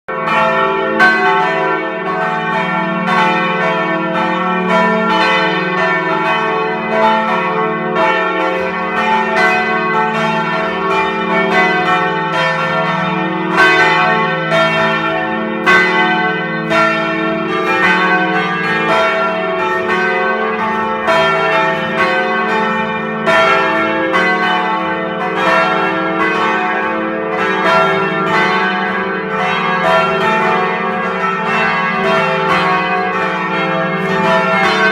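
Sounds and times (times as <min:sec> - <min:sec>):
church bells pealing: 0:00.1 - 0:34.9
deep hum of large bells: 0:00.1 - 0:34.9.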